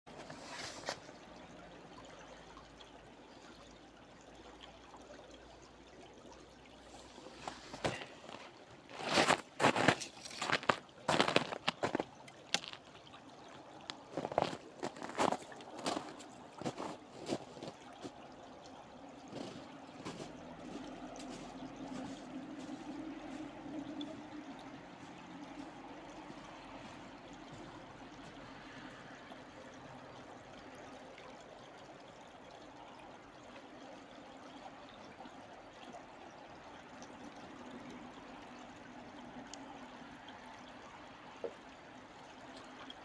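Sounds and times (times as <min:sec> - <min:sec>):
stream trickling: 0:00.1 - 0:43.0.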